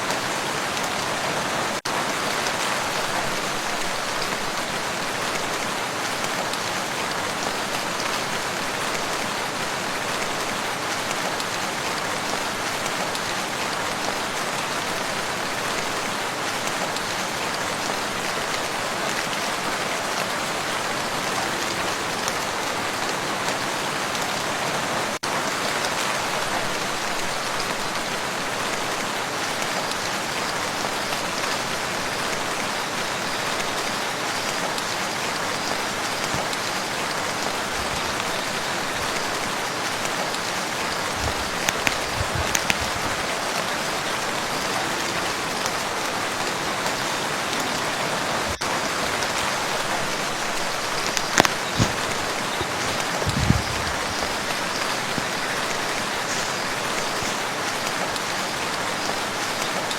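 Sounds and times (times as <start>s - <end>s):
rain falling on a lake: 0.0s - 59.9s.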